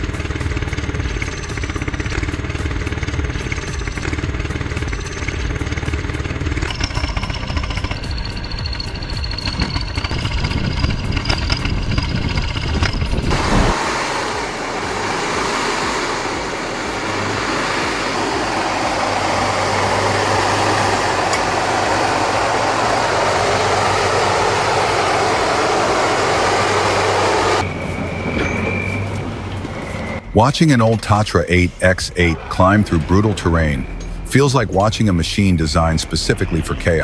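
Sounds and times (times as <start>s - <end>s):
pulsing machine with high whine: 0.0s - 31.5s, 32.2s - 37.0s
heavy vehicle engines running: 0.0s - 37.0s
low hum: 0.0s - 37.0s.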